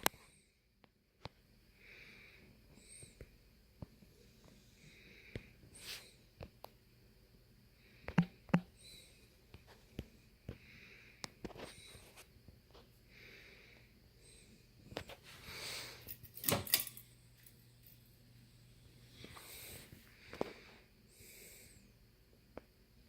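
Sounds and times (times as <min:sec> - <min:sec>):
ceiling fan hum: 0:00.0 - 0:23.0.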